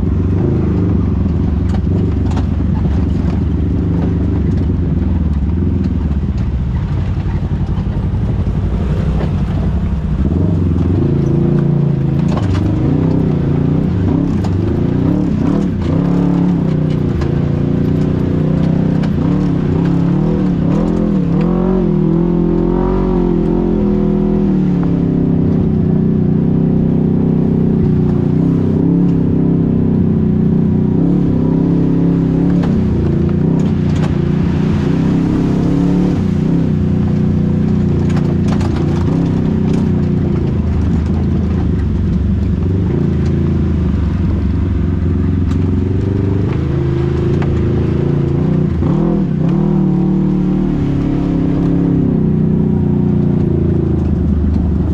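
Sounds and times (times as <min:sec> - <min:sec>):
engine revving: 0:07.5 - 0:54.9.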